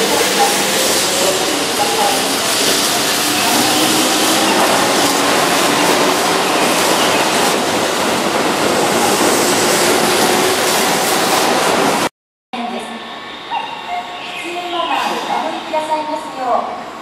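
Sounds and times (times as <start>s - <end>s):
electric train passing: 0.0s - 12.1s, 12.7s - 17.0s.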